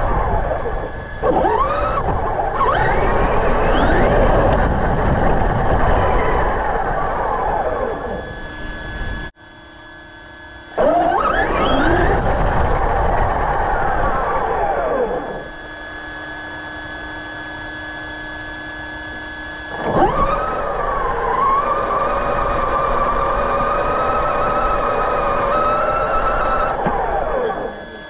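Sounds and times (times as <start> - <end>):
electric motor whining up in pitch: 0.0 - 9.4, 10.6 - 28.0.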